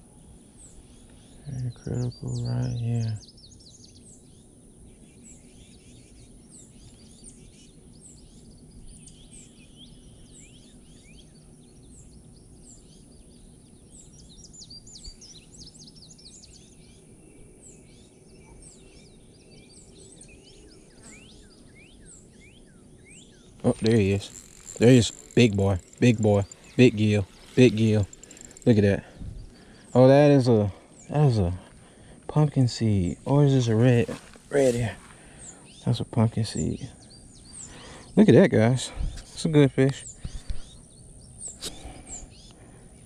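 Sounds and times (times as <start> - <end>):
small birds chirping: 0.0 - 43.0
steady outdoor background hiss: 0.0 - 43.0.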